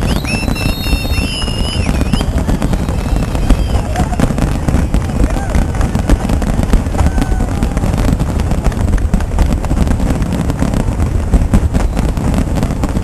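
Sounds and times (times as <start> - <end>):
fireworks crackling and popping: 0.0 - 13.0
wind rumbling on microphone: 0.0 - 13.0.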